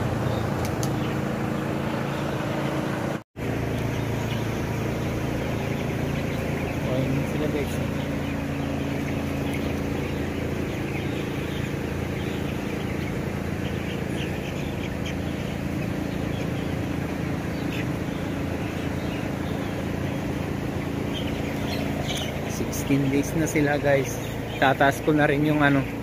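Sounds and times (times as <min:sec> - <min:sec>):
chicks cheeping: 0:00.0 - 0:26.0
ventilation fans humming: 0:00.0 - 0:26.0.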